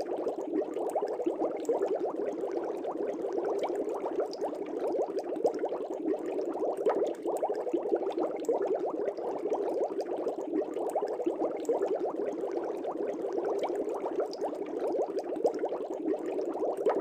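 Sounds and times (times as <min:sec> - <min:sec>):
air bubbling in fish tank water: 0:00.0 - 0:17.0.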